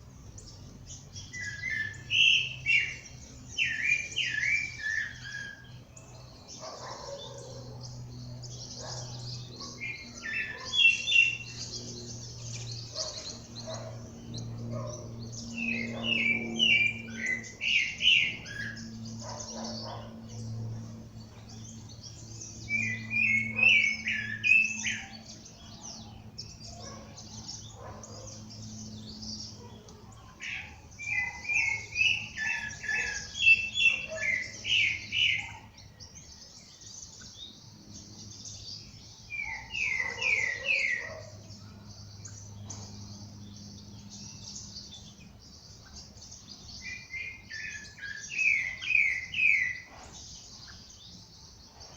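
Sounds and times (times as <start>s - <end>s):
birds twittering: 0.0s - 51.9s.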